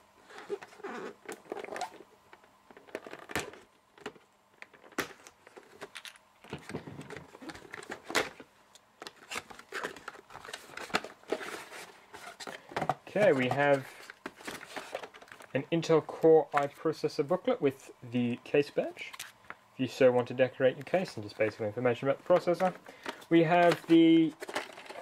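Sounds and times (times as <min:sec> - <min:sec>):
crinkling of card and paper: 0:00.3 - 0:17.0, 0:18.8 - 0:25.0.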